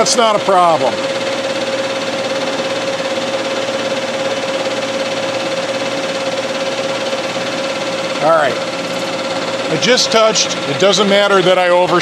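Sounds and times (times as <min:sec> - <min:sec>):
constant machine whine: 0:00.0 - 0:12.0
metal lathe running: 0:00.0 - 0:12.0.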